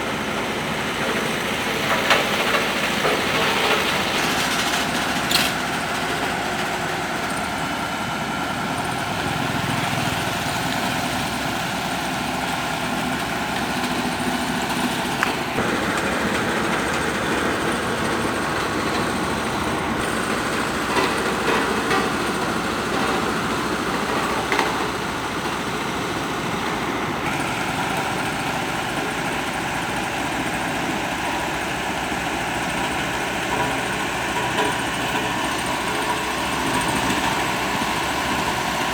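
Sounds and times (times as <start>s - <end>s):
heavy construction machinery running: 0.0s - 38.9s.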